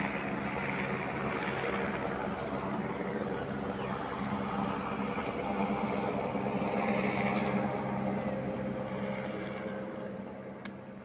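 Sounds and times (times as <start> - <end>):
distant helicopter drone: 0.0 - 11.0.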